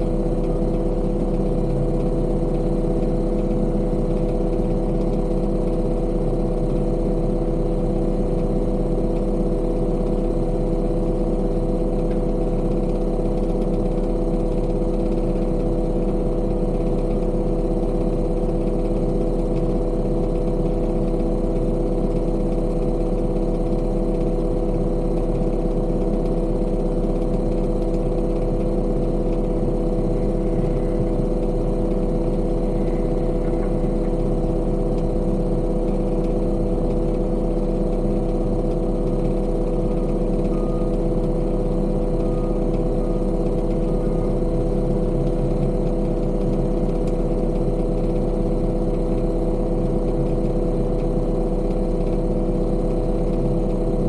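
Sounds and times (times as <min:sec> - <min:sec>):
heavy machine engine droning: 0:00.0 - 0:54.0.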